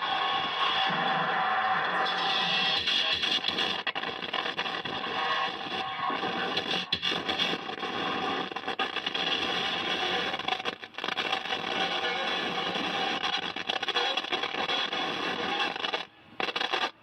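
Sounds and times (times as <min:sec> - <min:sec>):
harsh noise and distortion: 0:00.0 - 0:17.0
music through a speaker: 0:00.0 - 0:17.0.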